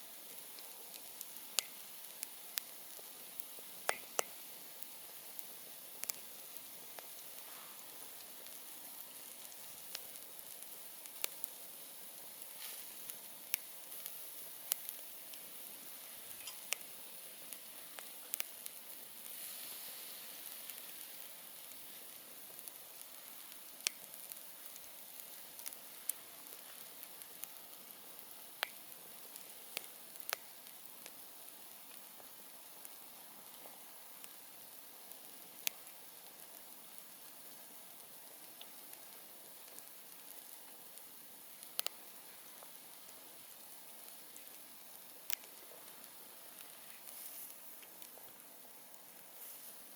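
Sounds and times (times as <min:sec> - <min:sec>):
burning wood crackling and popping: 0:00.0 - 0:49.9
campfire hissing: 0:00.0 - 0:49.9.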